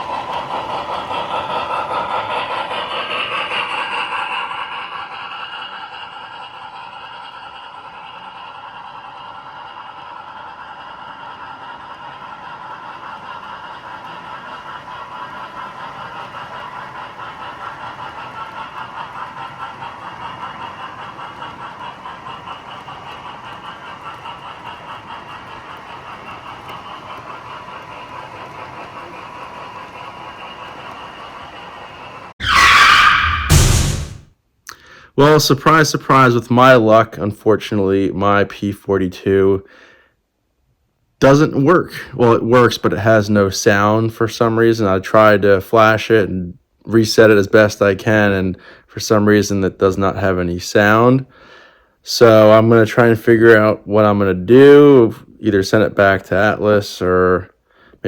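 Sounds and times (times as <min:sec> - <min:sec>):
model train running on track: 0:00.0 - 0:33.7, 0:34.7 - 0:58.0.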